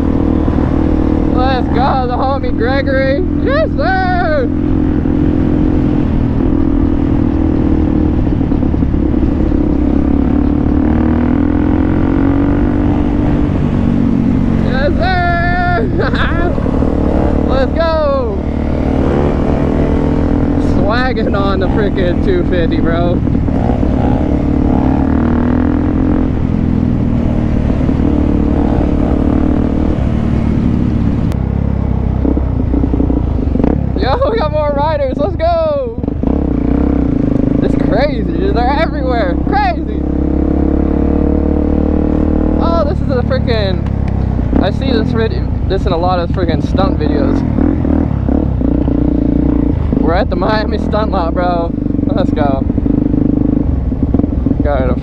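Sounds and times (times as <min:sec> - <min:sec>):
low wind rumble: 0:00.0 - 0:55.0
motorcycle engine running: 0:00.0 - 0:55.0.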